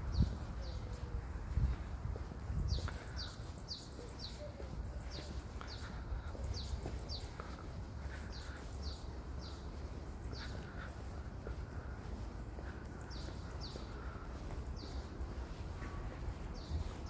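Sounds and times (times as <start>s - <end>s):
small bird calling: 0.2s - 1.2s, 2.5s - 17.0s.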